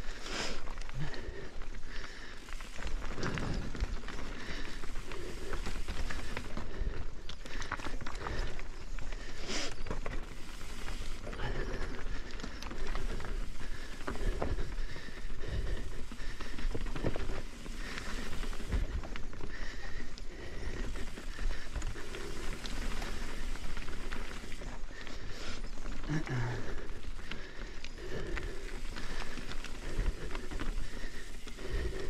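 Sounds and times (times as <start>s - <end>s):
bike tyres on dirt and rock: 0.0s - 32.0s
bike knocking and rattling: 0.1s - 32.0s.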